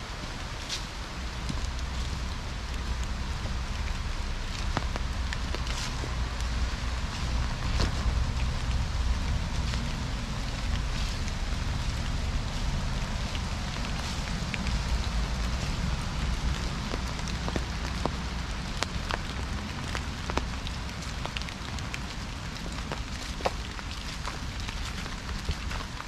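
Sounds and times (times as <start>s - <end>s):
light ticks and crackles: 0.0s - 26.0s
low rumble: 0.0s - 26.0s.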